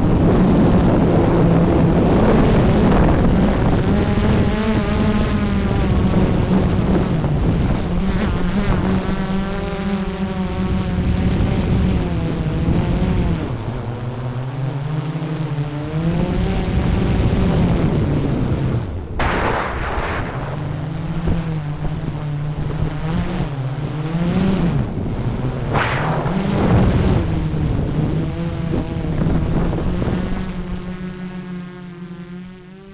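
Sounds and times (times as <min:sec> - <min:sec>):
drone propellers buzzing: 0:00.0 - 0:32.9.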